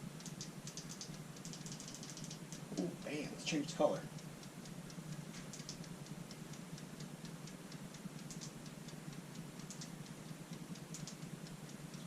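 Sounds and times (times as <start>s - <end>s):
fast mechanical ticking: 0.0s - 12.0s
toaster oven humming: 0.0s - 12.0s.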